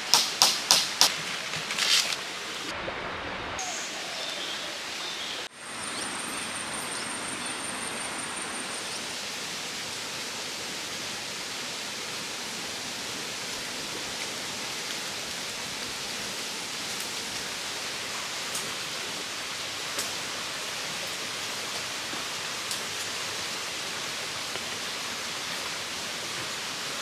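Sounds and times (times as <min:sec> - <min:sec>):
rushing stream: 0:00.0 - 0:27.0.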